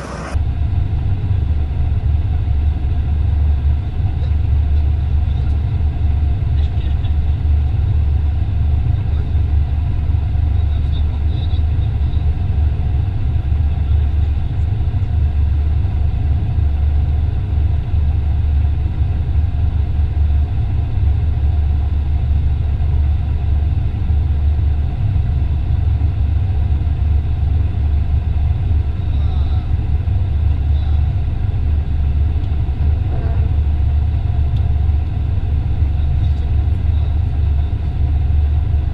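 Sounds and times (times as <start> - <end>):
machine engine humming: 0.0 - 38.9.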